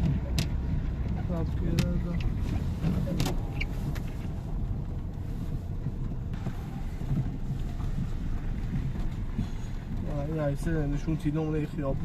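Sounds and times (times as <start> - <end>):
outdoor street noise rumble: 0.0 - 12.0.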